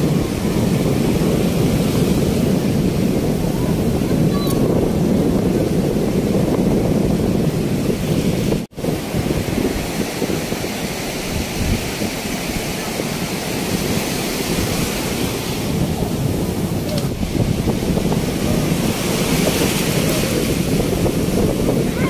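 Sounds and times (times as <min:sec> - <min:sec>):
sea surf breaking on sand: 0:00.0 - 0:22.0
wind buffeting microphone: 0:00.0 - 0:22.0.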